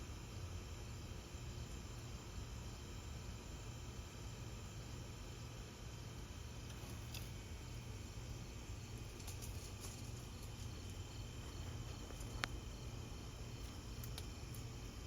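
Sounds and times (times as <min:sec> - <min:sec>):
low steady hum: 0:00.0 - 0:15.0
crickets chirping: 0:00.2 - 0:15.0.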